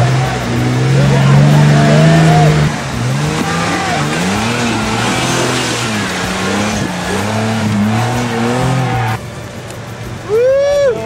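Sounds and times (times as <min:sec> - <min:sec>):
truck engine revving: 0:00.0 - 0:10.2.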